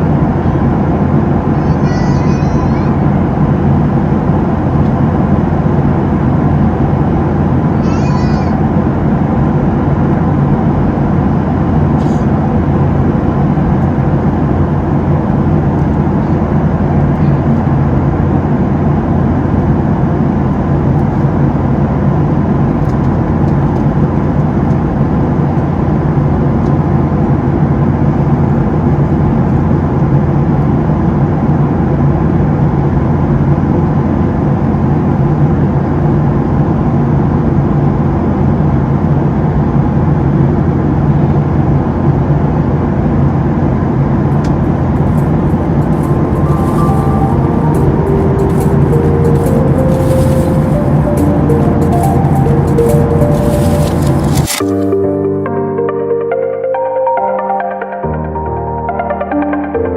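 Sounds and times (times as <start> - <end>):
airplane cabin engine drone: 0.0 - 56.5.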